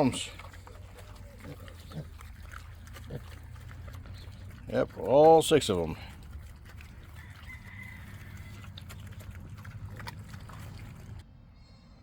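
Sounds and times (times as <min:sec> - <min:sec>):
pigs feeding crunches: 0:00.0 - 0:11.2
pigs grunting: 0:00.0 - 0:11.2.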